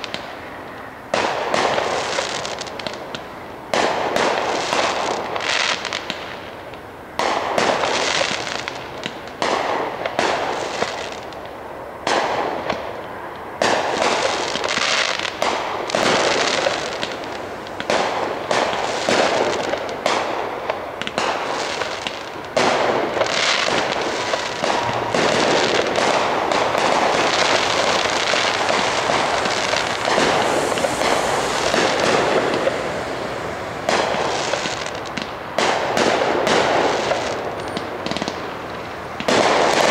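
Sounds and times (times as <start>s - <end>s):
fireworks bursting: 0.0s - 13.0s, 13.6s - 39.9s.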